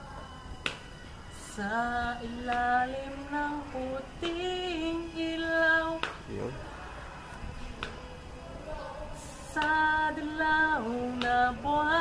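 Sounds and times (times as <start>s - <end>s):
young person singing: 1.4s - 6.7s, 7.5s - 12.0s.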